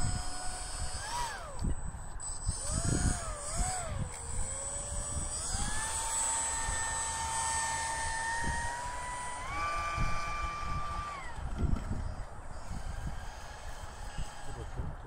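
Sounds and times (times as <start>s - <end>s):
propeller and motor whining: 0.0s - 15.0s.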